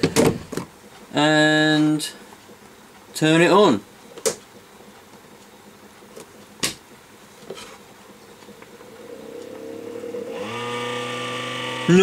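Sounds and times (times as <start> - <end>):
small fan whining and buzzing: 0.0 - 12.0.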